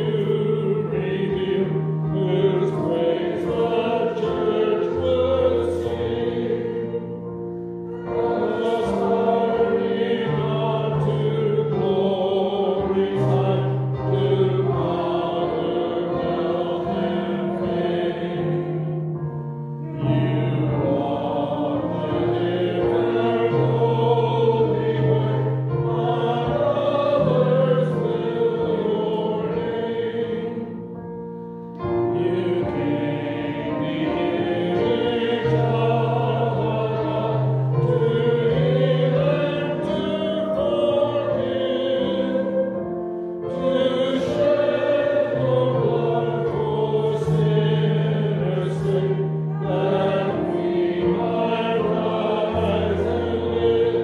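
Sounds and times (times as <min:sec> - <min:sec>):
piano chords: 0:00.0 - 0:54.0.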